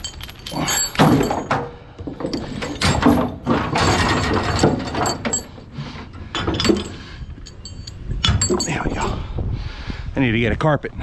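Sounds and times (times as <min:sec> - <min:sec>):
steel chain clanking on wooden deck: 0:00.0 - 0:09.3.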